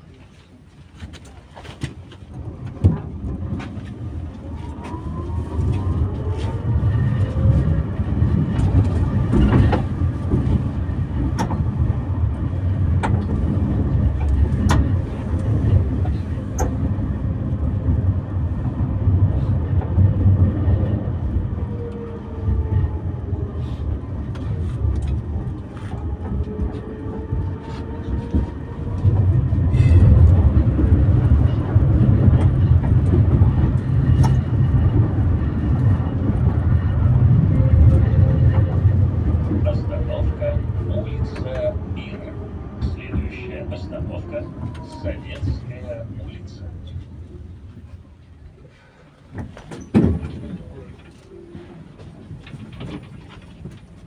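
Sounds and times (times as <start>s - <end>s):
tram passing: 0.0s - 54.0s
wheels rumbling on rails: 0.0s - 54.0s
tram motor whine: 2.4s - 48.5s.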